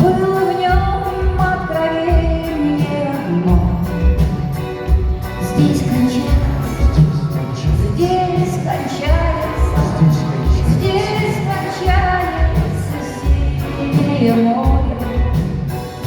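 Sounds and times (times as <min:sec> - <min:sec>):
woman singing: 0:00.0 - 0:04.5, 0:05.4 - 0:16.0
band with bass and kick drum: 0:00.0 - 0:16.0.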